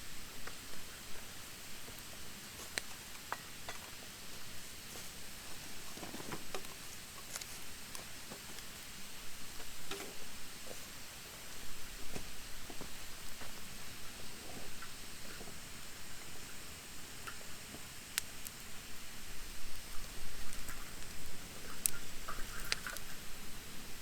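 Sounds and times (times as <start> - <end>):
campfire hissing: 0.0 - 24.0
fire crackles and pops: 0.2 - 24.0.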